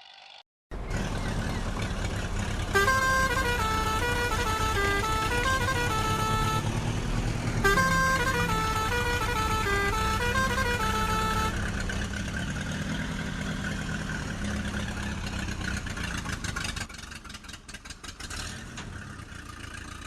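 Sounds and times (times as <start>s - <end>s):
vehicle engine running: 0.7s - 20.0s.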